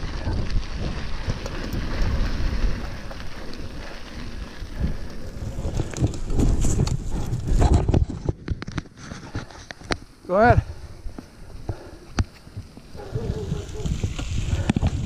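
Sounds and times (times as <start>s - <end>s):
bike rattling and clattering: 0.0s - 10.2s, 11.0s - 15.0s
tyre noise on dirt: 0.0s - 15.0s
wind rumbling on microphone: 0.0s - 15.0s.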